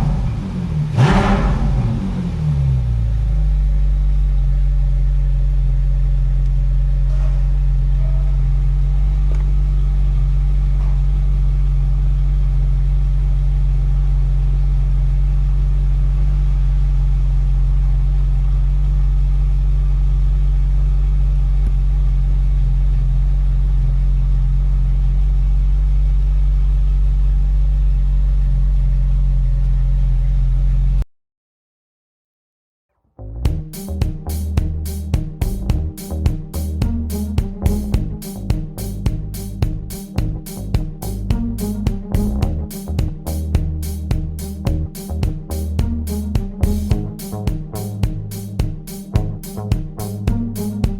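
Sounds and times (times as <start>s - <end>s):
car engine idling: 0.0s - 29.0s, 33.5s - 50.9s.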